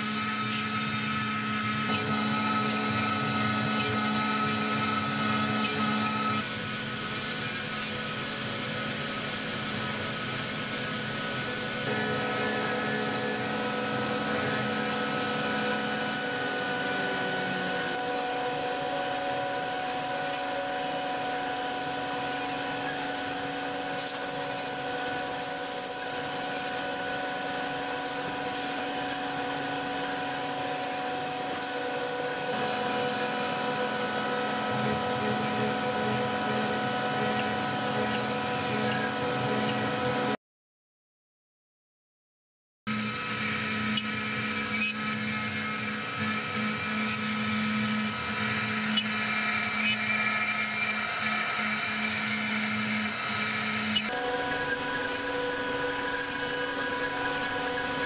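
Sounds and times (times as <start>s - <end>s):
router spindle whining: 0.0s - 40.4s, 42.9s - 58.0s.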